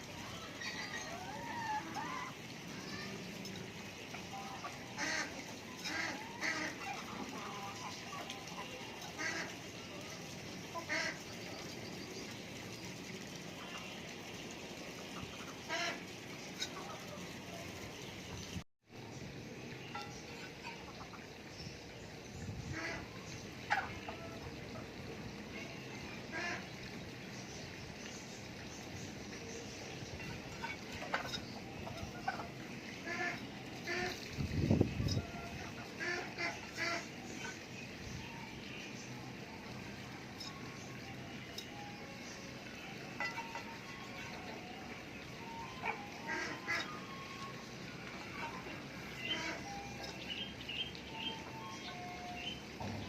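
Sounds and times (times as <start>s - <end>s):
ducks and poultry calling: 0.1s - 3.1s, 3.8s - 11.8s, 14.8s - 18.3s, 22.6s - 26.8s, 28.9s - 53.0s.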